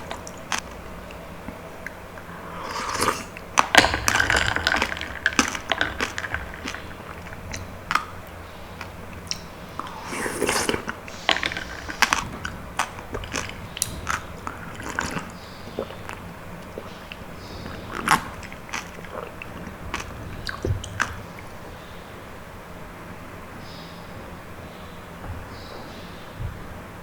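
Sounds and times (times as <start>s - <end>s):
person chewing wet fruit: 0.0s - 22.0s.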